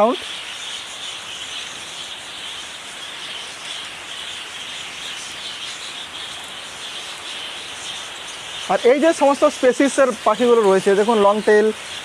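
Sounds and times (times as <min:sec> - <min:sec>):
finches chirping: 0:00.0 - 0:12.0
high-pitched hiss: 0:00.0 - 0:12.0.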